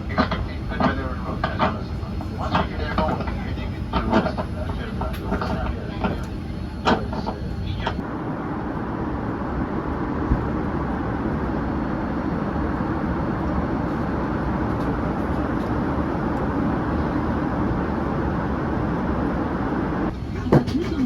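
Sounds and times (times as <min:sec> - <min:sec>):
airliner cabin engine and airflow noise: 0:00.0 - 0:21.0.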